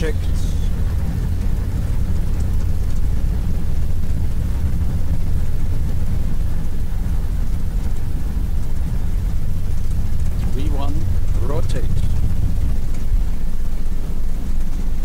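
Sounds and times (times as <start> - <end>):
jet engines rumbling: 0.0 - 15.0
wheels rolling on runway: 0.0 - 15.0.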